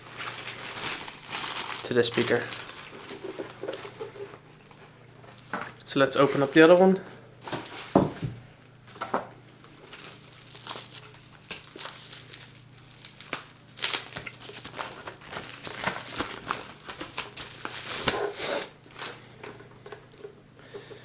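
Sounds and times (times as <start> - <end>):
plastic packaging crinkling: 0.0 - 5.5, 8.9 - 20.4.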